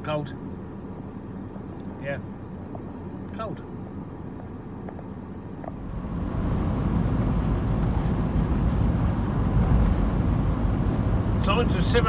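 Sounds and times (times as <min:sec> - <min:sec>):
van road and engine rumble: 0:00.0 - 0:12.0.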